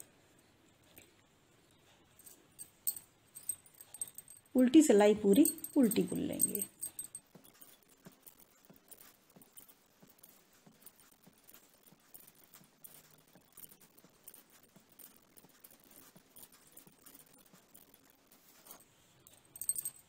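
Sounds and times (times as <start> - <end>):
metal knitting needles clicking: 2.2 - 20.0.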